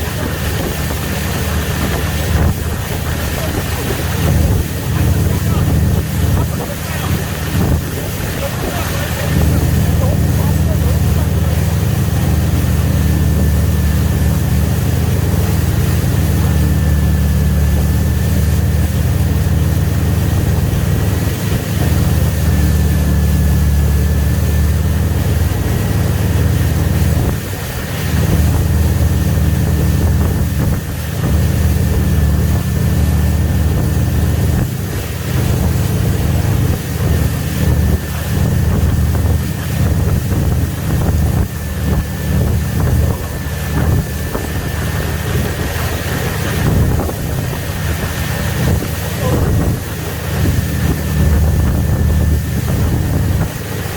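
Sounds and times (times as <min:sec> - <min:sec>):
boat engine rumbling: 0:00.0 - 0:53.9
wind buffeting microphone: 0:00.0 - 0:53.9.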